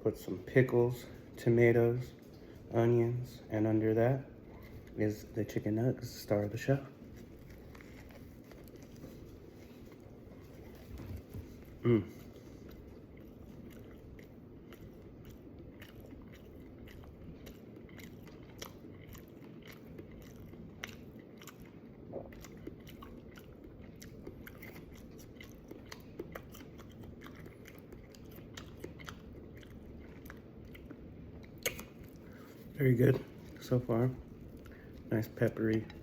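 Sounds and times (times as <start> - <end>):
low room hum: 0.0 - 36.0
person chewing crunchy food: 6.9 - 36.0.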